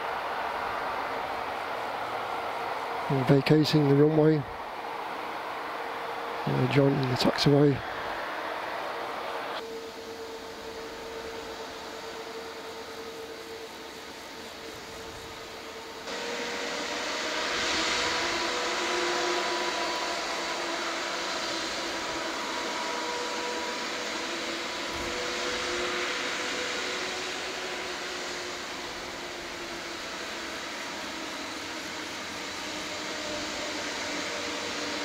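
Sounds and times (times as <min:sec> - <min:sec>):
jet engines whining: 0:00.0 - 0:35.0.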